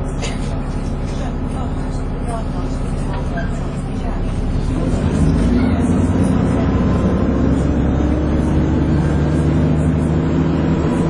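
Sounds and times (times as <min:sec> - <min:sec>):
bus engine droning whine: 0:00.0 - 0:11.0.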